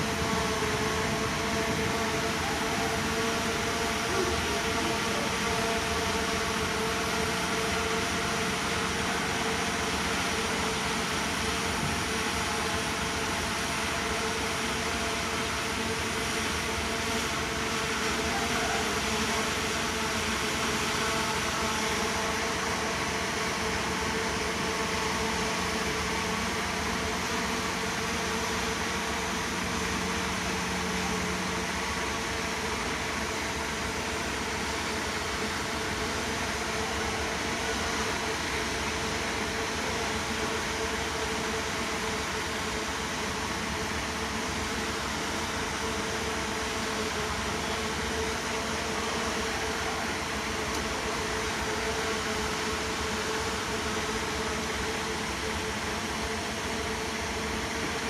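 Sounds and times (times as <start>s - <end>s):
constant whine: 0.0s - 58.0s
diesel engine running: 0.0s - 58.0s.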